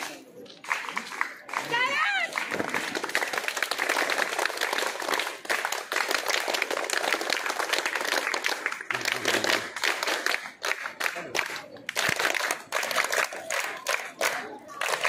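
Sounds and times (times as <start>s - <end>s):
girls clapping: 0.0s - 15.0s.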